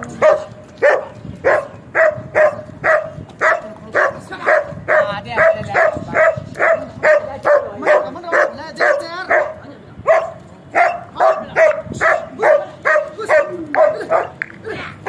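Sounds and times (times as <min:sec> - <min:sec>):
dog barking: 0:00.1 - 0:14.4.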